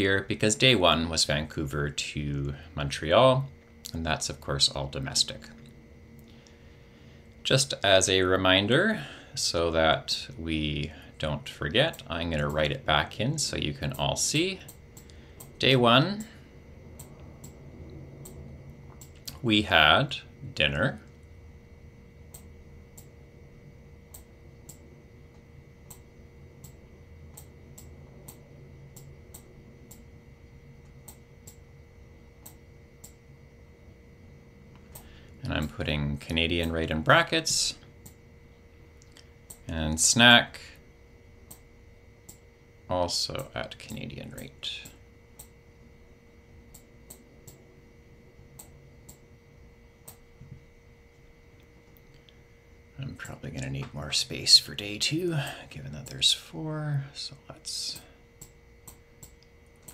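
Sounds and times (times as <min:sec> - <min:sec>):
faint electrical tone: 0:00.0 - 0:59.9
faint steady hum: 0:00.0 - 0:59.9.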